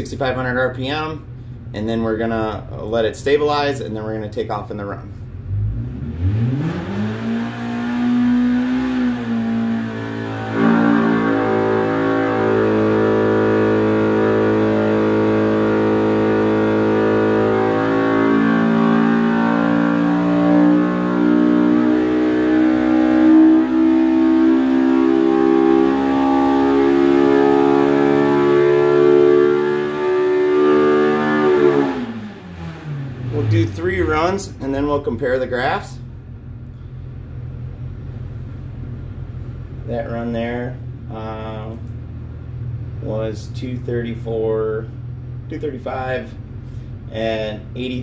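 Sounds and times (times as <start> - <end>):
engine revving under load: 0.0 - 48.0.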